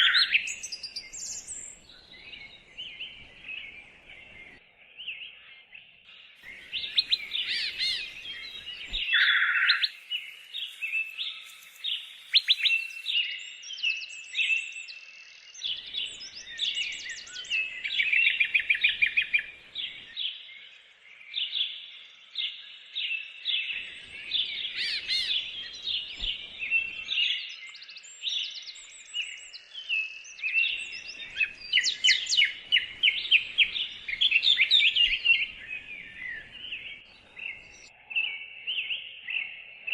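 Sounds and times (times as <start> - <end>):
birds singing in chorus: 0.0 - 39.9.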